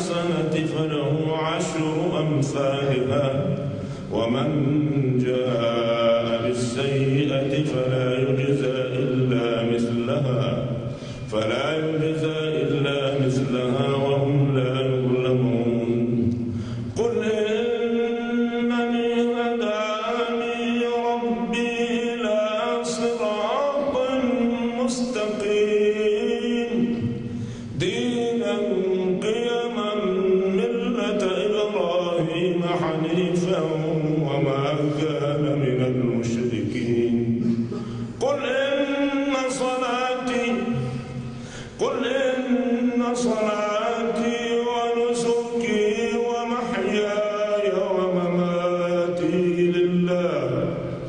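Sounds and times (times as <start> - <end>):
man reciting in melodic chant: 0.0 - 51.0.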